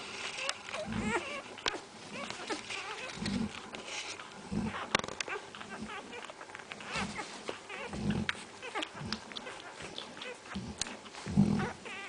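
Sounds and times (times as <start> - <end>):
puppies whining and squeaking: 0.0 - 12.0.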